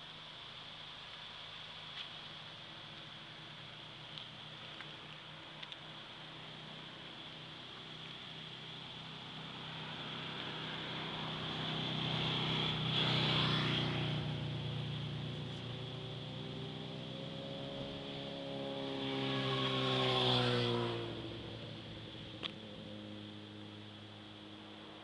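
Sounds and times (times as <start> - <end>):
vehicles passing on road: 0.0 - 25.0.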